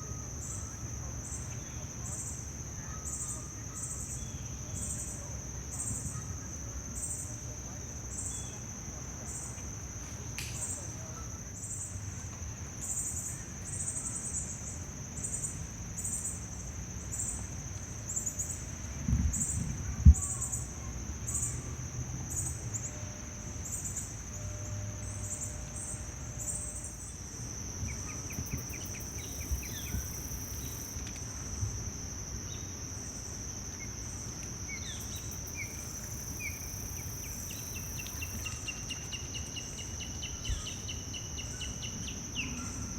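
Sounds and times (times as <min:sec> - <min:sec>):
insects droning and chirping: 0:00.0 - 0:42.9.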